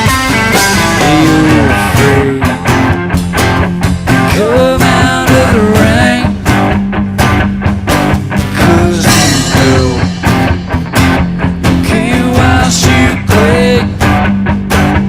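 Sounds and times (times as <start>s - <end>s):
bass and drums: 0.0s - 15.0s
electric lead guitar bending notes: 0.0s - 15.0s.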